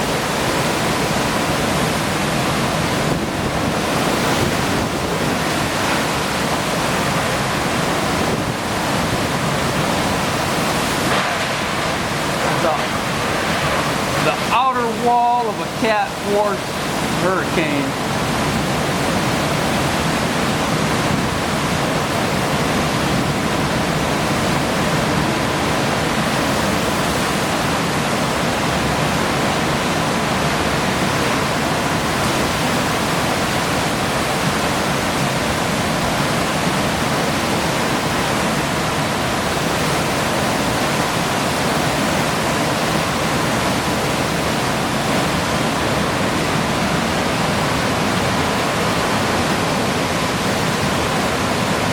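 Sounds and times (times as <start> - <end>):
hurricane wind roaring: 0.0 - 51.9.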